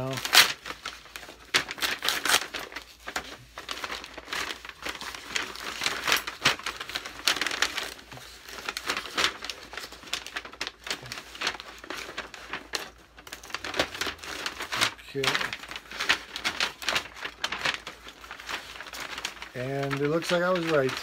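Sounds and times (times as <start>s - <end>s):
packing wrap crinkling: 0.0s - 21.0s.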